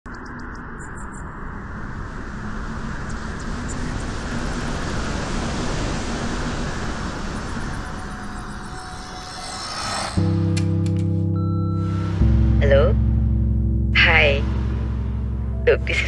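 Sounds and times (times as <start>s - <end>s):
rushing ambient rumble: 0.1s - 16.0s.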